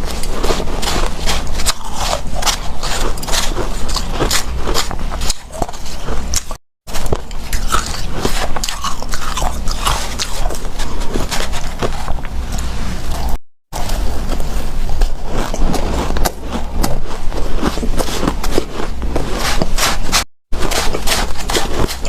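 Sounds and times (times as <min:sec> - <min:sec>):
chewing crunchy ice: 0:00.0 - 0:13.4, 0:14.8 - 0:22.0.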